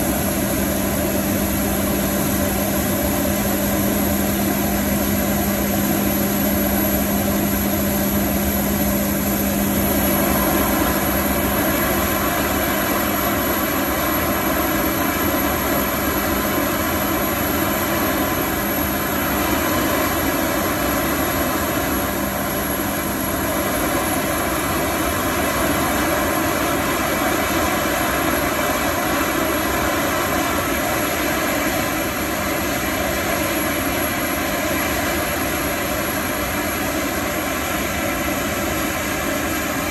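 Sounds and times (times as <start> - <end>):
low hum: 0.0 - 34.2
turbine rush with high whine: 0.0 - 39.9.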